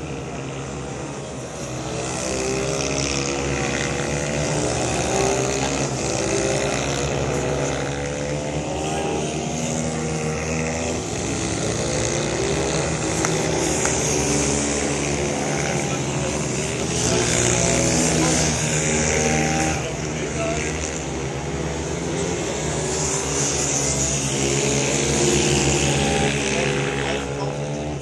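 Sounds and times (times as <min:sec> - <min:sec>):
minibike engines revving: 0:00.0 - 0:28.0.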